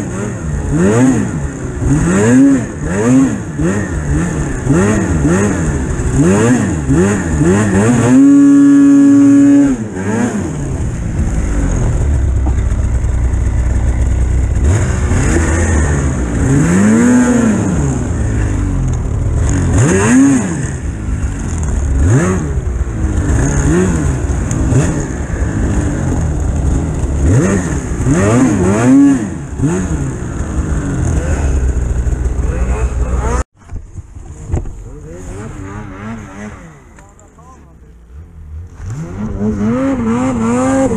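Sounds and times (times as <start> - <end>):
snowmobile engine revving: 0.0 - 33.5, 34.2 - 40.9.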